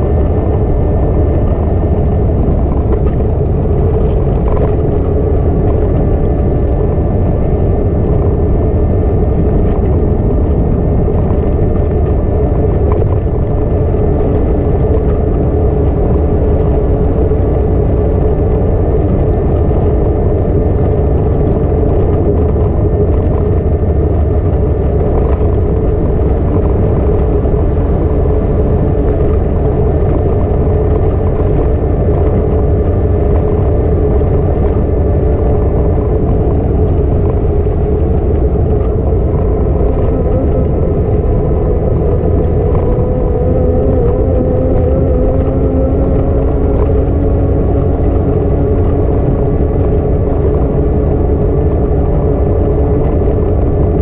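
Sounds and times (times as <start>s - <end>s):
wind rumble and rolling noise: 0.0s - 54.0s.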